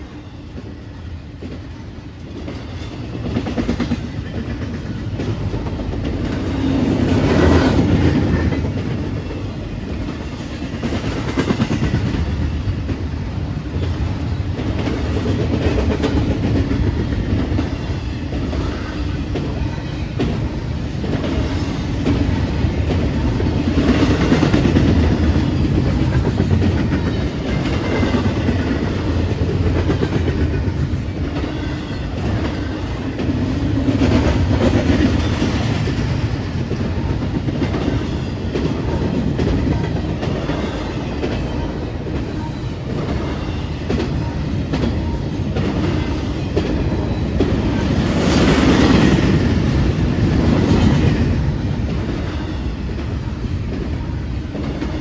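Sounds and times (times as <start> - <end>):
train rumble: 0.0 - 55.0
train wheels clicking over rails: 0.0 - 55.0.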